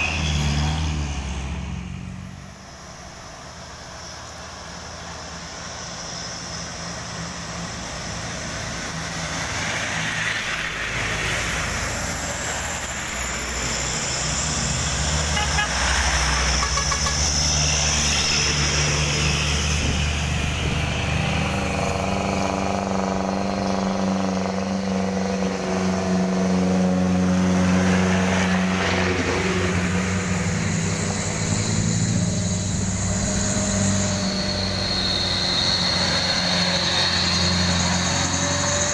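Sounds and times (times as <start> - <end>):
deep engine drone: 0.0 - 38.9
heavy vehicles and motorbikes passing: 0.0 - 38.9.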